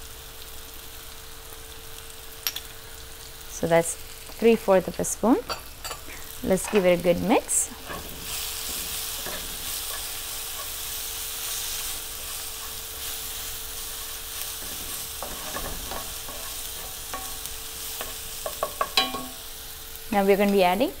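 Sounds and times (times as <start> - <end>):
masala sizzling in a frying pan: 0.0 - 21.0.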